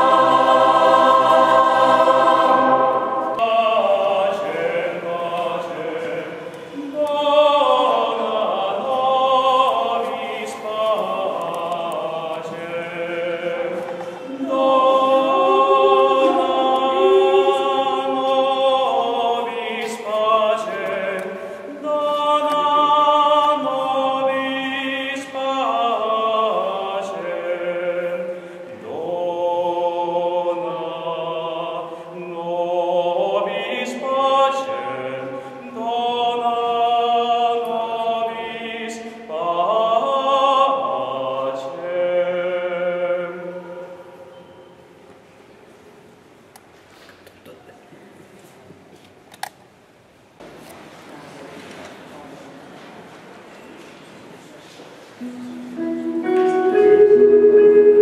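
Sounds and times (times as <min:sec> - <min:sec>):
choir singing: 0:00.0 - 0:44.6, 0:55.2 - 0:58.0.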